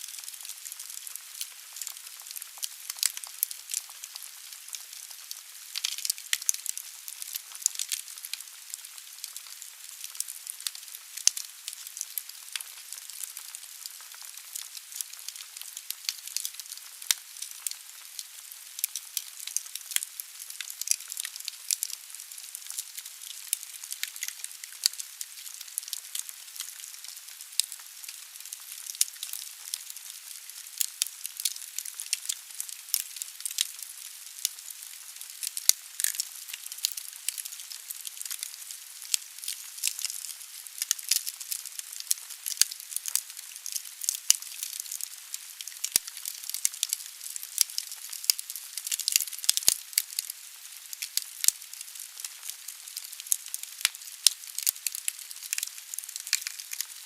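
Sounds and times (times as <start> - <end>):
logs crackling and popping: 0.0 - 57.0.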